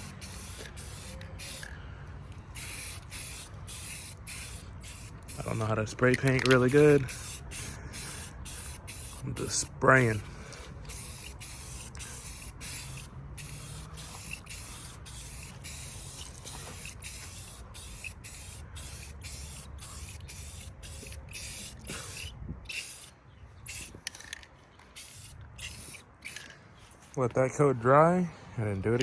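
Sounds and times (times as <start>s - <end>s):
spray paint can hissing: 0.0s - 1.7s, 2.5s - 24.3s, 24.9s - 26.5s.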